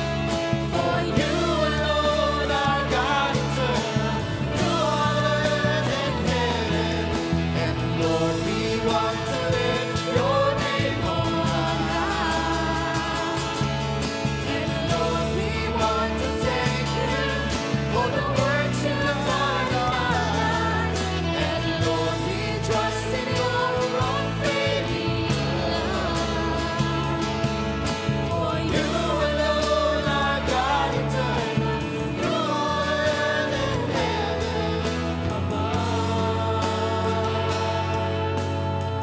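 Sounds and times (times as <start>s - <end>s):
bass guitar: 0.0s - 39.0s
drums: 0.0s - 39.0s
electric guitars: 0.0s - 39.0s
group of singers: 0.0s - 39.0s
keyboard: 0.0s - 39.0s.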